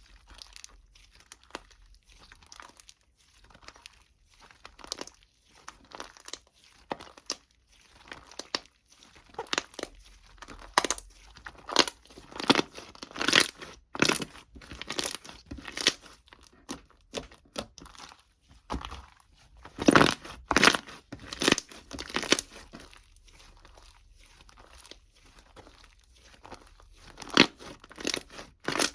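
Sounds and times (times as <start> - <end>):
crinkling and tearing: 0.0 - 28.9.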